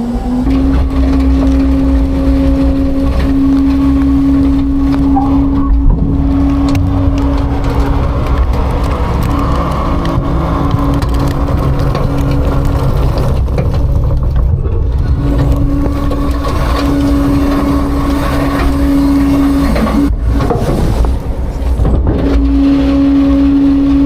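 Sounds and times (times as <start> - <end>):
high whine: 0.0 - 20.2
truck engine running: 0.0 - 24.0.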